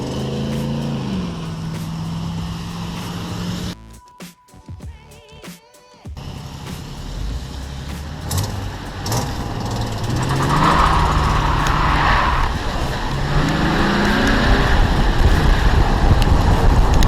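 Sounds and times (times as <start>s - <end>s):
car engine accelerating: 0.0s - 3.8s, 6.2s - 17.0s
road and tyre noise: 0.0s - 3.8s, 6.2s - 17.0s.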